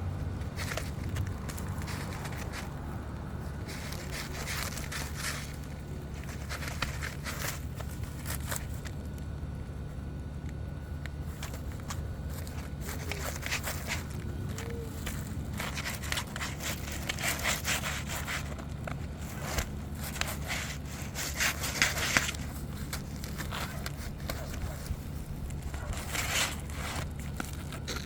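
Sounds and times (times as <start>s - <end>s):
steady low rumble: 0.0s - 28.0s
roof shingles crackling and scraping: 0.1s - 28.0s.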